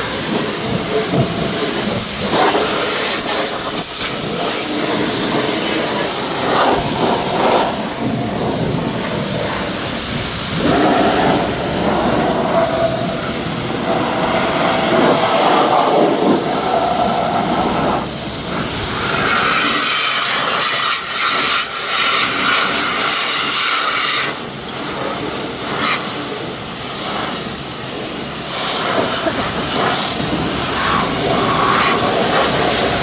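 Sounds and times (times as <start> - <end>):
pressure washer spraying: 0.0 - 33.0.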